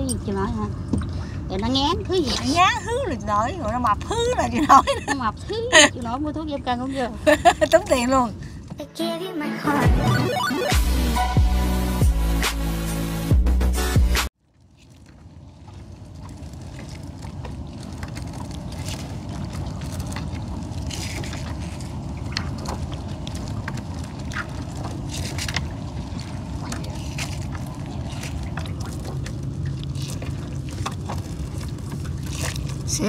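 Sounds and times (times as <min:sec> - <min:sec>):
small boat engine rumble: 0:00.0 - 0:33.0.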